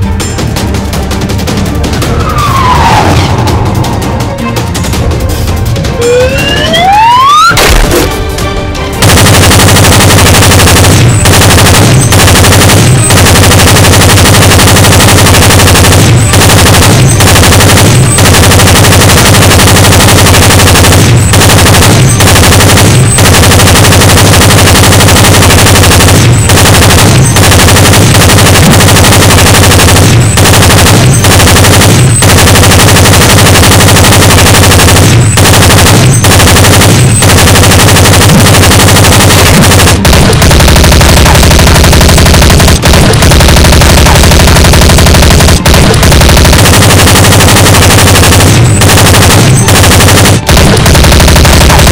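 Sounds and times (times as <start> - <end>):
machine-gun fire: 0.0 - 51.9.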